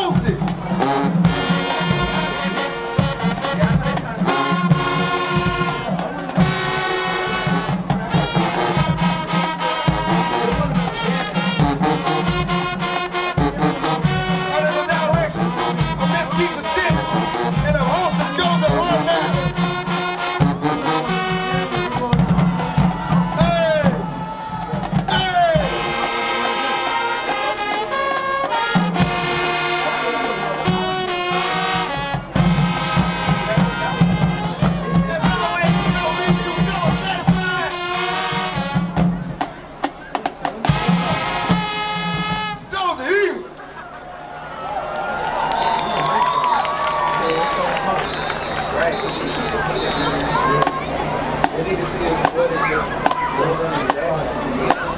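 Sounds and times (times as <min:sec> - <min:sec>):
marching band brass chords: 0:00.0 - 0:54.9.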